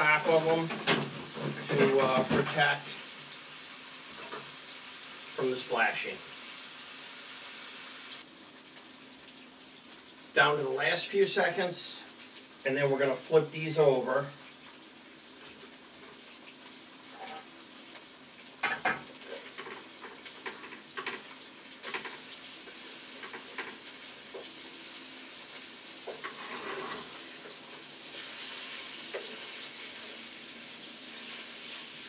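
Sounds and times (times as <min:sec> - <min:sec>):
chicken sizzling in a frying pan: 0:00.0 - 0:32.0.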